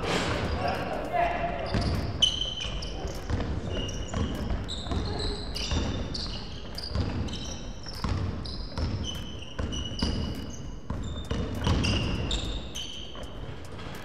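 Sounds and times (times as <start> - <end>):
basketball dribbling indoors: 0.0 - 14.0
basketball shoes squeaking: 0.0 - 14.0.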